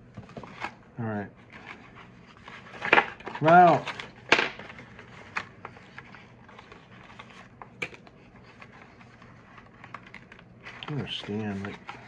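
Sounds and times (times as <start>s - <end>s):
packaging scraping: 1.4s - 7.5s, 8.4s - 12.0s.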